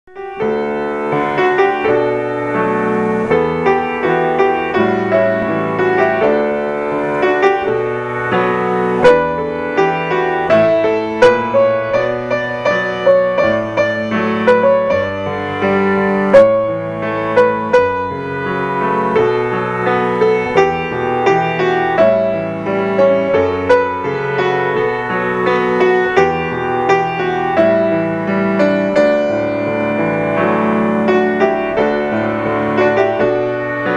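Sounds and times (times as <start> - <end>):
solo piano playing: 0.0 - 33.9.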